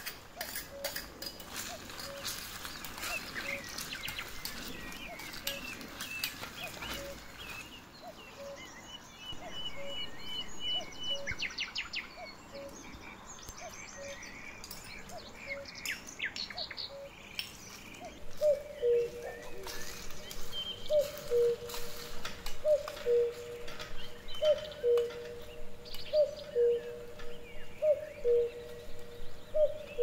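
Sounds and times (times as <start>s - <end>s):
birds chirping and trilling: 0.0s - 30.0s
long low bird calls: 0.0s - 30.0s.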